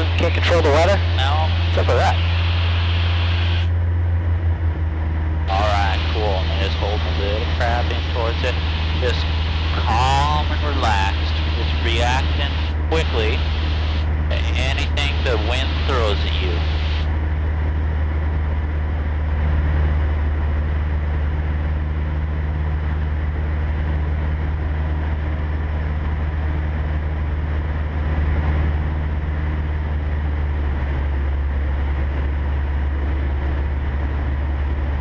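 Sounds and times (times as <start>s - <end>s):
rushing airflow: 0.0s - 4.1s, 5.0s - 35.0s
airplane engine and propeller droning: 0.0s - 35.0s.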